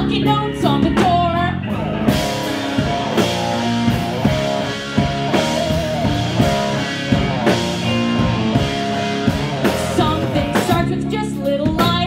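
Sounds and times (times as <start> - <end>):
bass: 0.0 - 12.0
drum kit beat: 0.0 - 12.0
electric guitars: 0.0 - 12.0
keyboard: 0.0 - 12.0.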